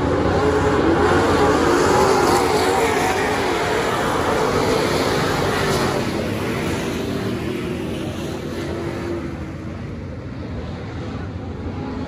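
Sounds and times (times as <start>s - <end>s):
race car engine: 0.0s - 12.0s
wind: 0.0s - 12.0s.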